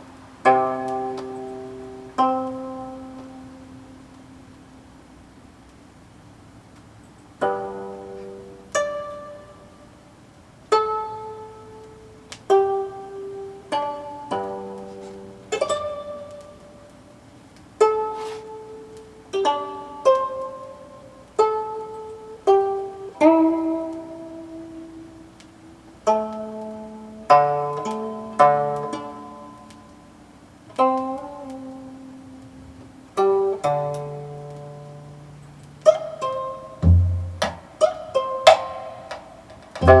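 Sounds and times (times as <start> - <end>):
plucked zither melody: 0.0 - 4.5, 7.4 - 17.2, 17.8 - 40.0.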